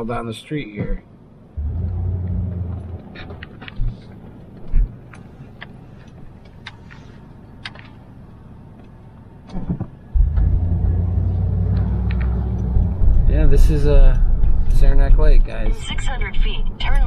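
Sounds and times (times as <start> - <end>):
car engine droning: 1.4 - 15.2.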